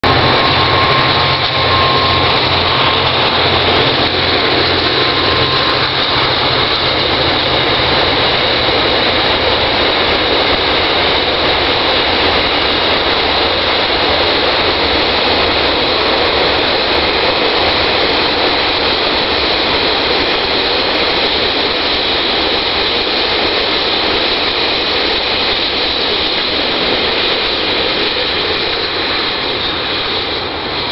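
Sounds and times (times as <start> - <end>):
freight wagons rumbling on rails: 0.0 - 30.9
locomotive engine throb: 0.0 - 30.9.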